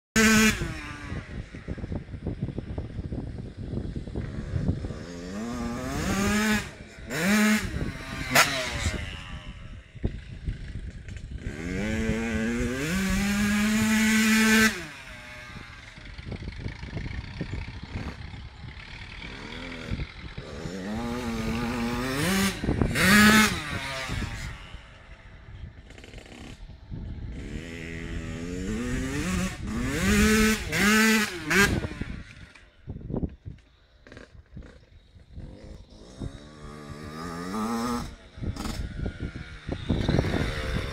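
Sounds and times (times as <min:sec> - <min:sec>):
two-stroke motorcycle engine revving: 0:00.2 - 0:40.9.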